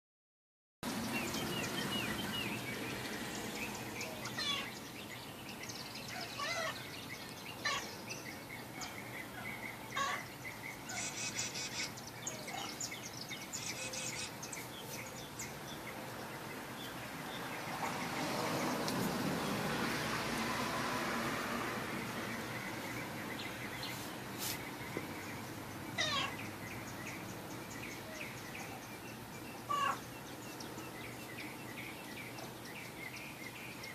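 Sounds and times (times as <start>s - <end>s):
small birds chirping: 0.8s - 20.8s, 21.6s - 33.9s.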